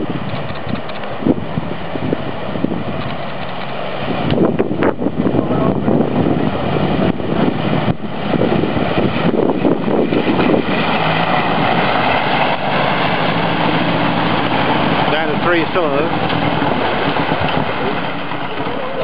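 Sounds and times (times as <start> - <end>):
water rushing and splashing: 0.0 - 19.0
car engine running: 0.2 - 19.0.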